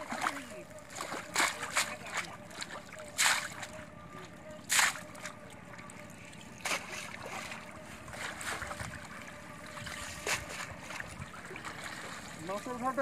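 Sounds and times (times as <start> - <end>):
shallow water sloshing: 0.0 - 13.0
water splashes: 0.0 - 13.0.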